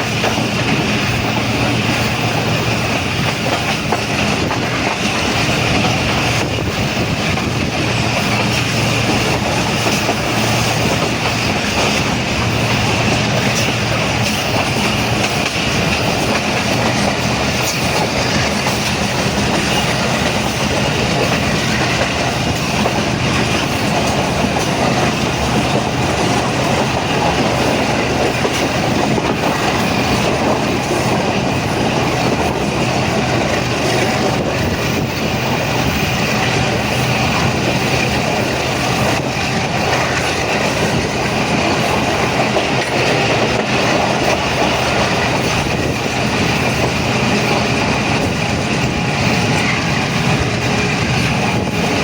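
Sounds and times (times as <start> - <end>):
clickety-clack over rail joints: 0.0 - 52.0
train wheels rumbling on rails: 0.0 - 52.0.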